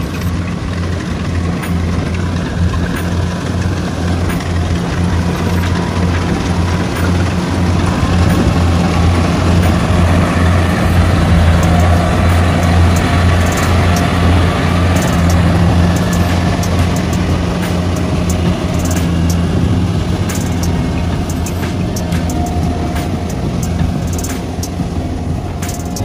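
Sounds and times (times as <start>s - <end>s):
diesel engine drone: 0.0s - 26.0s
threshing machinery clatter: 0.0s - 26.0s.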